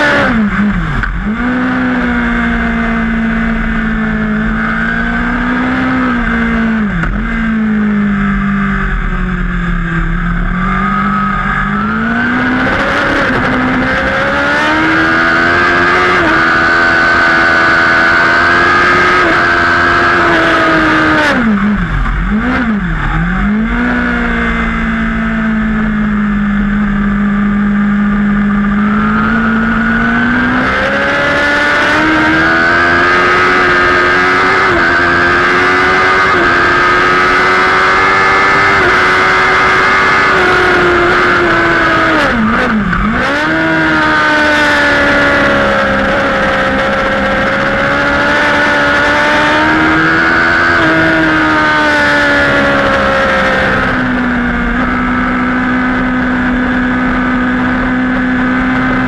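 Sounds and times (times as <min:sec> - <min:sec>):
motorbike engine at race pace: 0:00.0 - 0:59.0.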